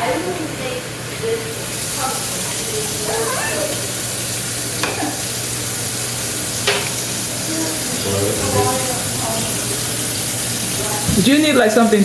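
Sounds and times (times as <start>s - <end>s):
kitchen tap running: 1.6s - 12.0s.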